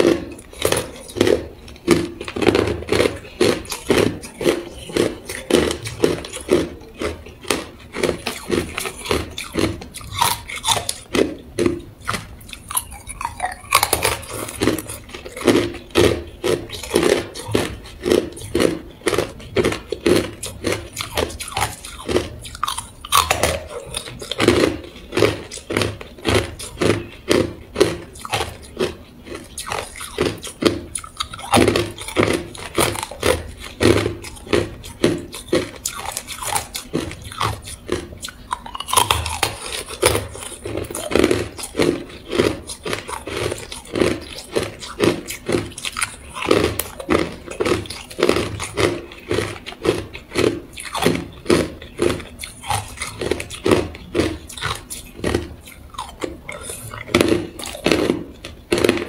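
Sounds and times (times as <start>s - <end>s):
ice crunching between teeth: 0.0s - 59.0s.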